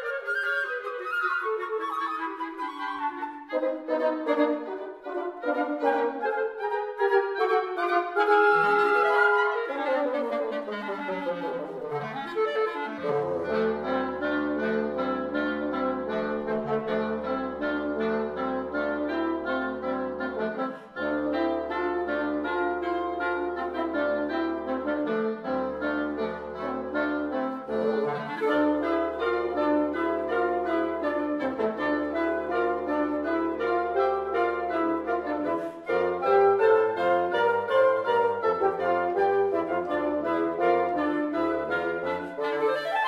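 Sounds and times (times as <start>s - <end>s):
wind quintet playing: 0.0s - 43.0s.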